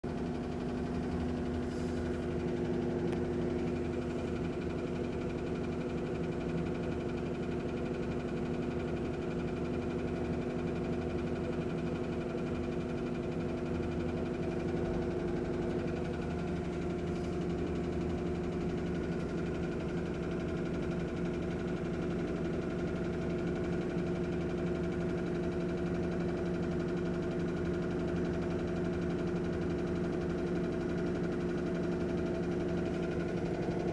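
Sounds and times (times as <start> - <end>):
washing machine spinning: 0.0 - 33.9.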